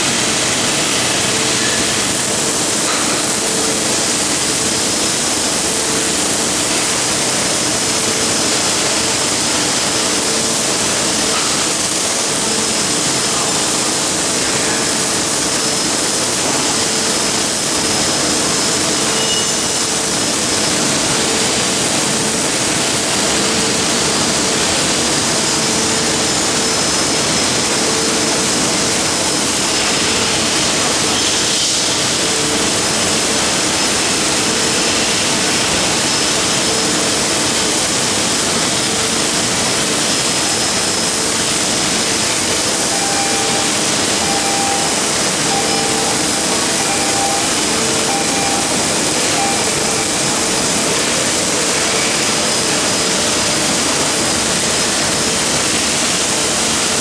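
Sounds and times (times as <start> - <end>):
welding arc hissing: 0.0 - 57.0.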